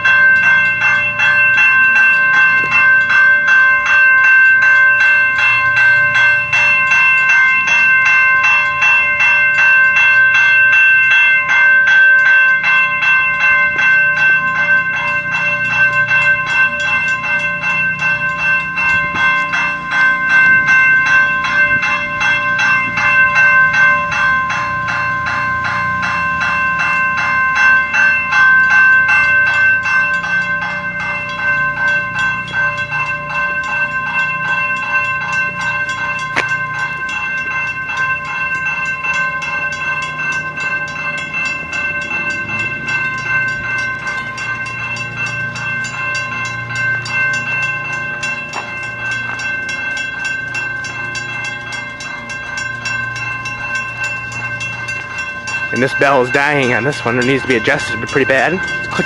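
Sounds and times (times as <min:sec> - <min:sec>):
railroad crossing bells ringing: 0:00.0 - 0:59.0.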